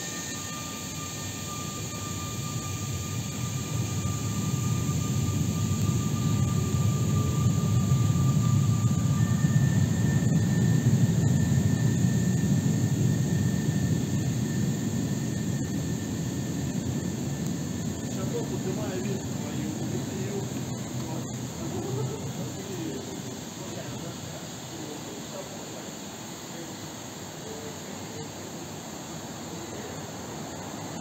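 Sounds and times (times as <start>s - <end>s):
electric train whine: 0.0s - 31.0s.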